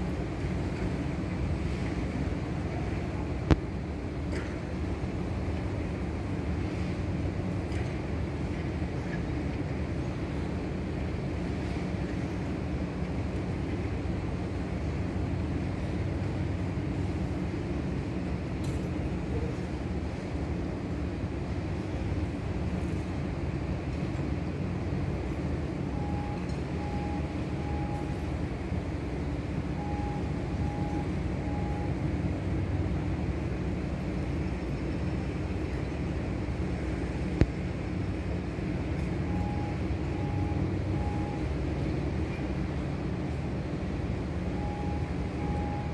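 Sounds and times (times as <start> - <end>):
low city rumble: 0.0 - 45.9.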